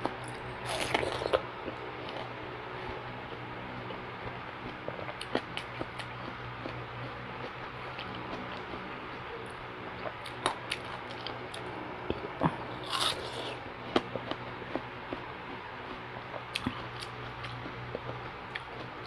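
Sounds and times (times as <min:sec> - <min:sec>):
biting and chewing watermelon: 0:00.0 - 0:02.4, 0:03.9 - 0:19.0.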